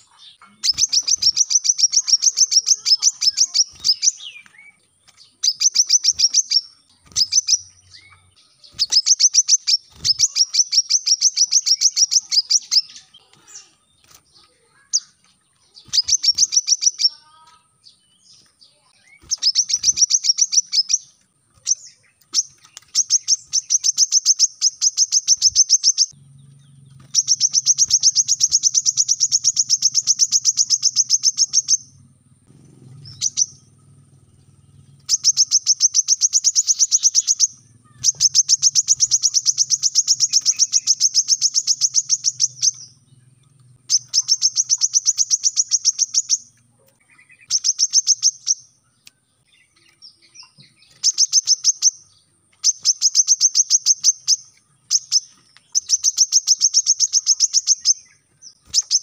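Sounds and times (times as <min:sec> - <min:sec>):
sunbird singing rapid high notes: 0:00.0 - 0:59.0.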